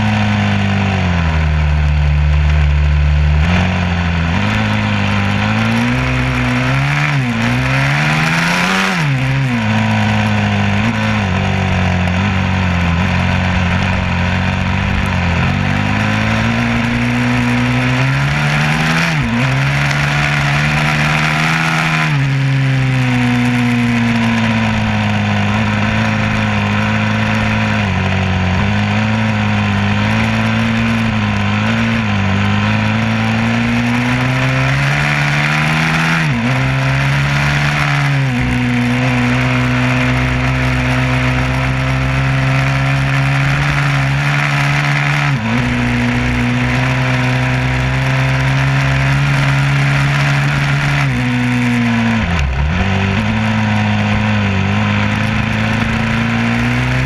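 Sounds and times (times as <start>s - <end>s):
vehicle engine accelerating: 0.0s - 57.0s.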